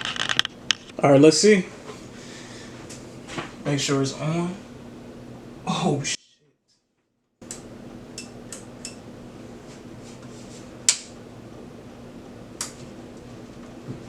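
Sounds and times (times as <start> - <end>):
steady low hum: 0.0 - 6.2, 7.4 - 14.0.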